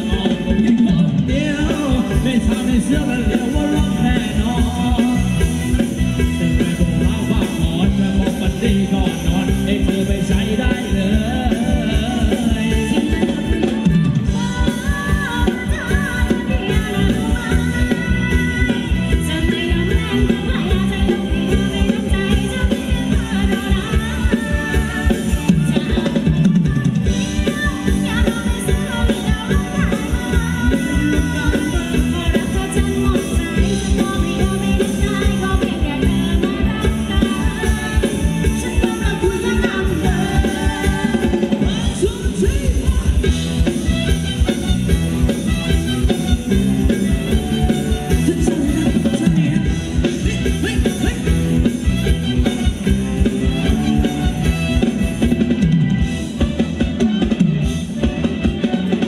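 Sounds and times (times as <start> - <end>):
person singing: 0.0 - 55.0
live band dance music: 0.0 - 59.0
steady drum beat: 0.0 - 59.0.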